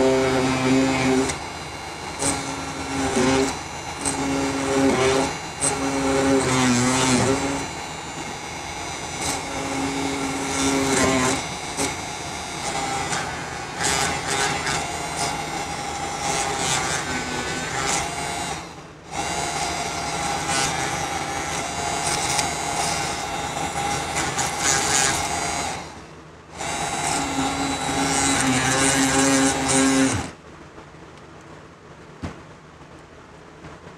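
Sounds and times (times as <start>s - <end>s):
drill bit grinding into wood: 0.0s - 26.0s, 26.6s - 30.4s
mini drill whining: 0.0s - 30.4s.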